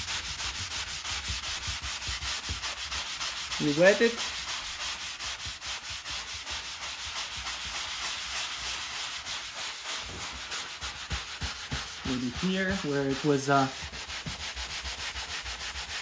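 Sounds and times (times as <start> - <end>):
sanding sponge scrubbing drywall: 0.0 - 16.0.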